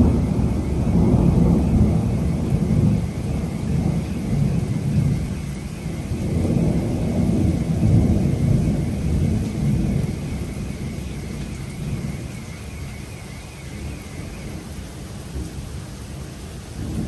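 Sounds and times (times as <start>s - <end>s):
thunder rumbling: 0.0s - 15.8s, 16.7s - 17.0s
steady rain: 0.0s - 17.0s.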